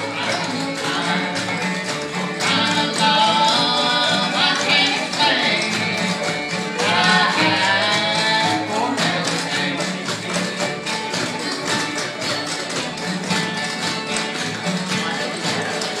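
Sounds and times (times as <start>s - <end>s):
bluegrass band playing: 0.0s - 16.0s
dancers' shoes tapping: 0.0s - 16.0s.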